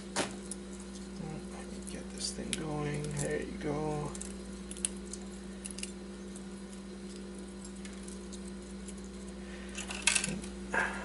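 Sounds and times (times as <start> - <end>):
steady low hum: 0.0 - 11.0
wire clicking and rustling: 0.2 - 10.6.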